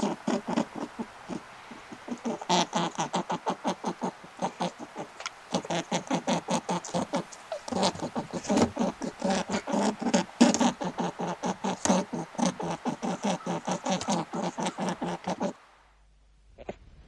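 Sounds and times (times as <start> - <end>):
small animal squeaking: 0.0 - 15.6.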